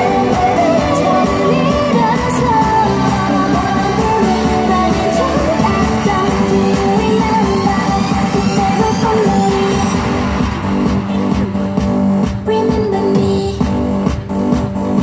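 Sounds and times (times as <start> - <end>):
pop song through speaker: 0.0 - 15.0.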